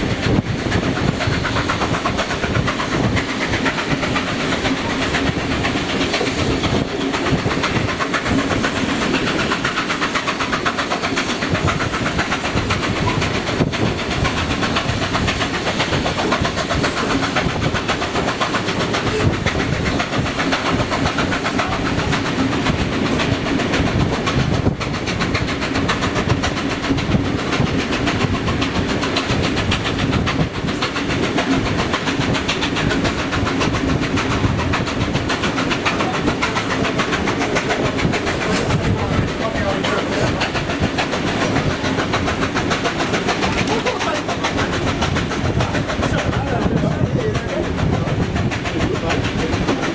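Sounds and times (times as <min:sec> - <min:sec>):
steam locomotive chuffing: 0:00.0 - 0:49.9.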